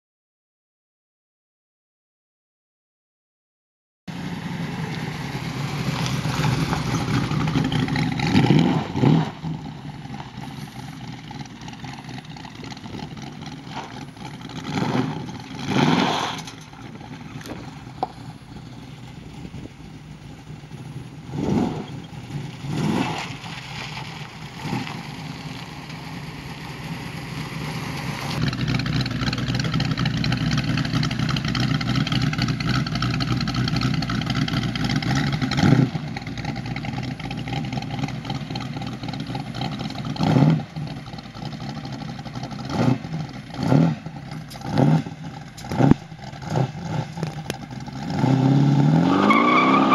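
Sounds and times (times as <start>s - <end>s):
pickup engine idling and revving: 4.1s - 49.9s.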